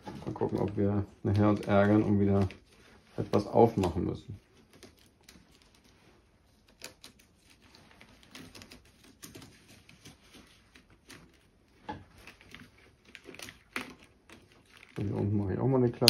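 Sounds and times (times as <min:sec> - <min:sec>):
faint clicks of handling cables: 0:00.0 - 0:15.1.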